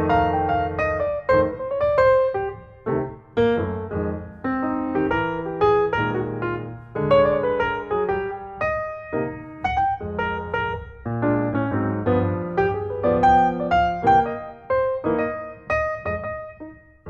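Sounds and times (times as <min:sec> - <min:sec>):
solo piano melody: 0:00.0 - 0:17.0.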